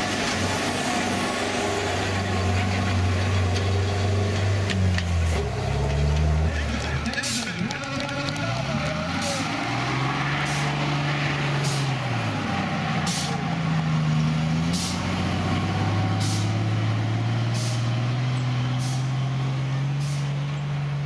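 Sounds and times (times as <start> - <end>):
truck engine on sand: 0.0 - 21.0.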